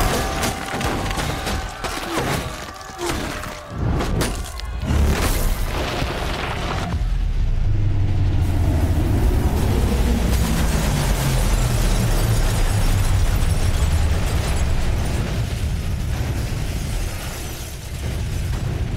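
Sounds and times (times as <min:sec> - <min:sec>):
falling debris crashing: 0:00.0 - 0:07.3, 0:09.6 - 0:18.9
deep earthquake rumble: 0:03.6 - 0:18.9.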